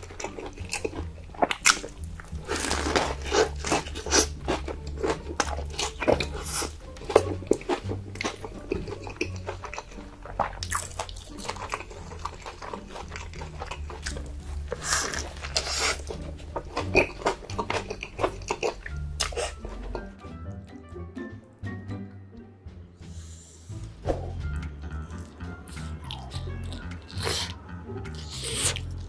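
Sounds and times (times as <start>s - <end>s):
person chewing crunchy food: 0.0s - 20.2s, 25.1s - 29.0s.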